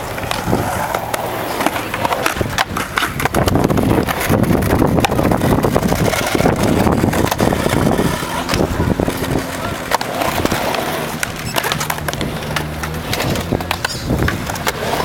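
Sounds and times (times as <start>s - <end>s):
skateboard clacks and knocks: 0.0s - 15.0s
skateboard wheels rolling on concrete: 0.0s - 15.0s.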